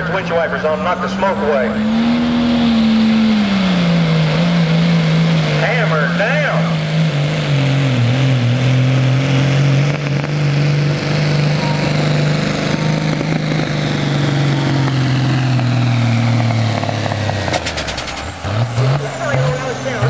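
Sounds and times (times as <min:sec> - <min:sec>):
diesel pickup engine at full throttle: 0:00.0 - 0:20.0.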